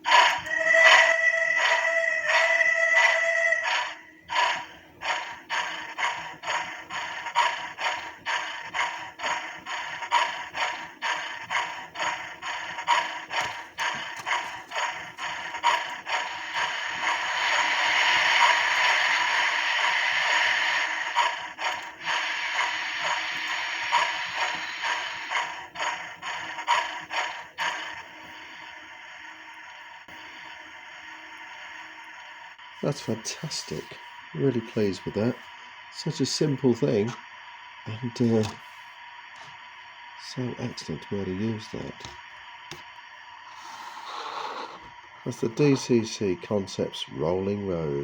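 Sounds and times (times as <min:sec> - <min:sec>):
model locomotive steam chuffs: 0:00.0 - 0:48.0.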